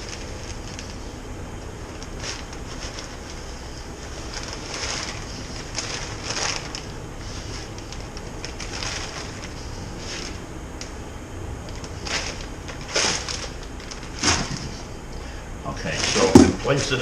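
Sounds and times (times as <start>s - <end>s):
bags rustling and crinkling: 0.0s - 10.5s, 11.6s - 14.9s, 15.8s - 16.8s.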